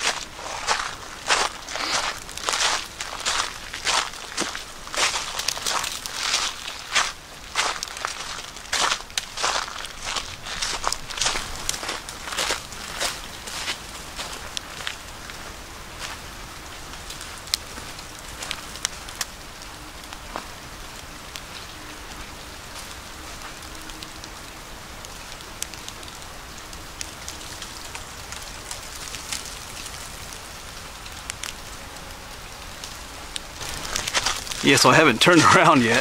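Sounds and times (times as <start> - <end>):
patter of falling precipitation: 0.0 - 36.0.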